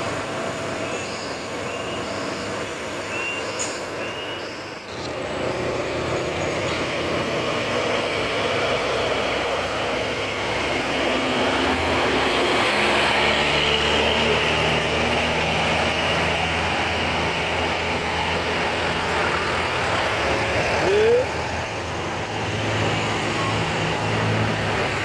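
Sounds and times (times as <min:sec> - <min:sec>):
diesel engine: 0:00.0 - 0:25.0
tyre and road noise: 0:04.8 - 0:25.0.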